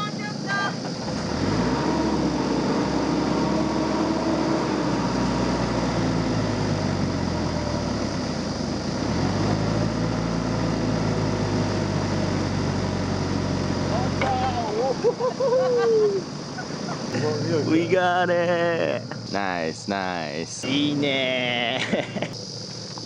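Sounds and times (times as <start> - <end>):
heavy vehicle engine revving: 0.8 - 23.0.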